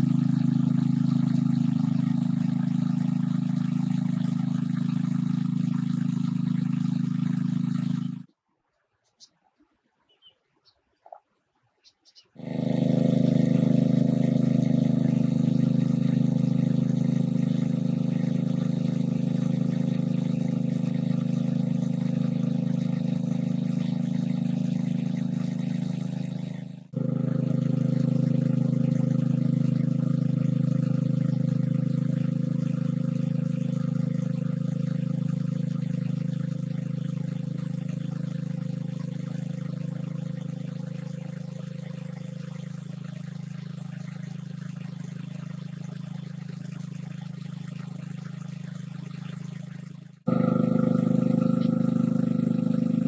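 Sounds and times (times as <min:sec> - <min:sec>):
motor-like drone: 0:00.0 - 0:08.3, 0:12.4 - 0:53.0.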